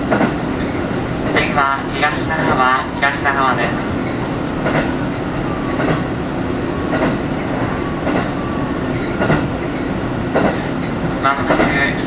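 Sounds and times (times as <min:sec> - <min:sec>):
train rumbling from inside carriage: 0:00.0 - 0:12.0
train wheel clacks: 0:00.0 - 0:12.0.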